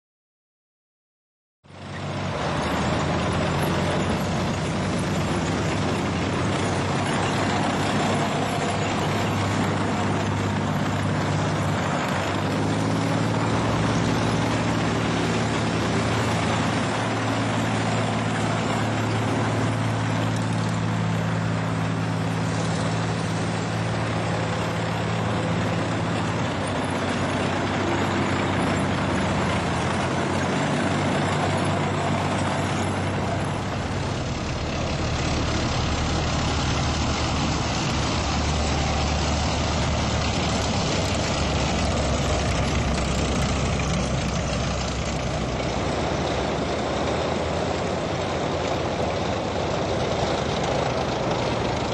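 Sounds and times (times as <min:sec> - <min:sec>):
heavy military vehicle engines: 0:01.6 - 0:51.9.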